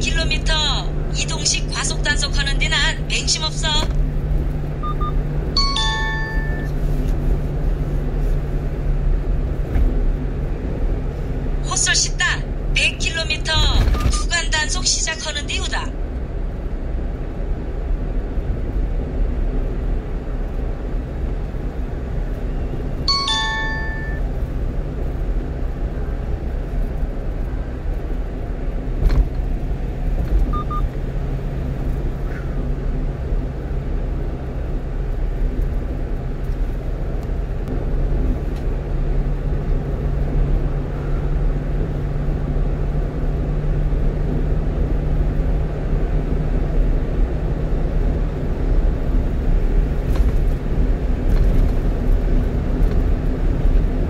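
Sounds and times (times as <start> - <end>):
truck engine rumble: 0.0 - 54.0
tyre road noise: 0.0 - 54.0.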